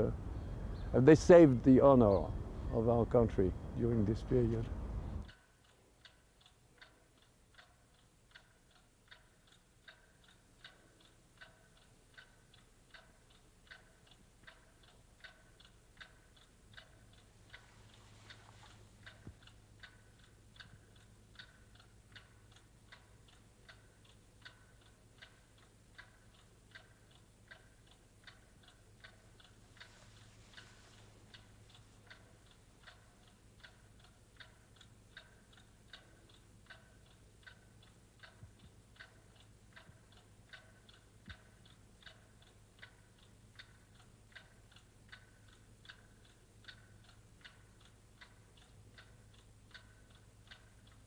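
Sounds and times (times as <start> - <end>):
faint clock ticking: 0.0 - 51.0.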